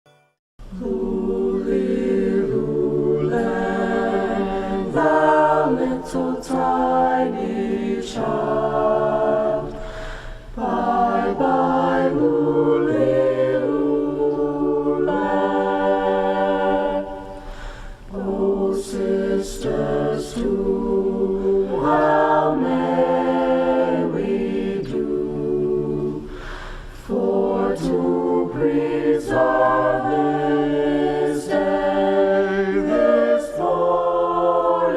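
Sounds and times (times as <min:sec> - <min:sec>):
choir singing a cappella: 0:00.6 - 0:34.9.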